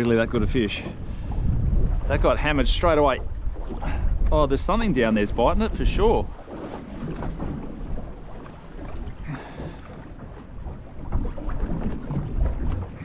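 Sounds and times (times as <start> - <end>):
water against boat hull: 0.0 - 13.0
wind buffeting microphone: 0.0 - 13.0.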